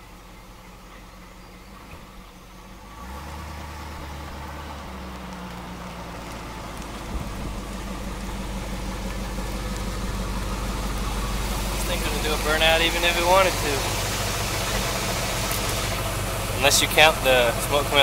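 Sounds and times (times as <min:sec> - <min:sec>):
car engine running at low speed: 0:00.0 - 0:18.0.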